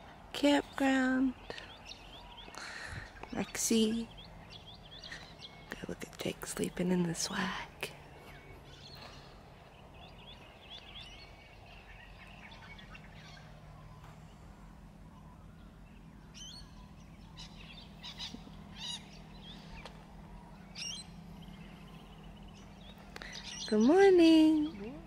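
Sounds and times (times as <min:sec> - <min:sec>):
low steady hum: 0:00.0 - 0:25.0
wild birds chirping: 0:00.0 - 0:25.0.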